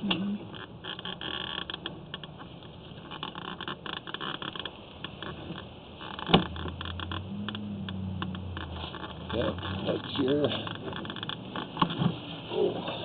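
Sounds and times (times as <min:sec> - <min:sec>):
cable scraping and clicking in pipe: 0:00.1 - 0:12.1.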